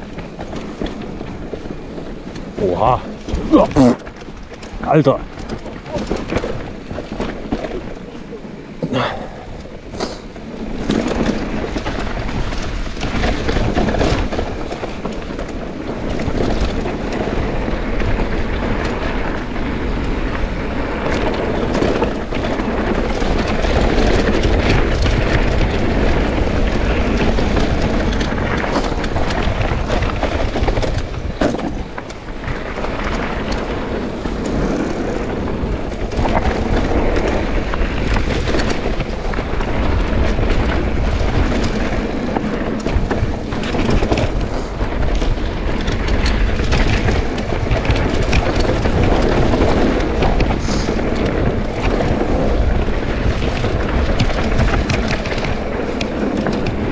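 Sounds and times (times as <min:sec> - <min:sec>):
bike rattling: 0:00.0 - 0:56.9
bike tyres rumbling on dirt: 0:00.0 - 0:56.9.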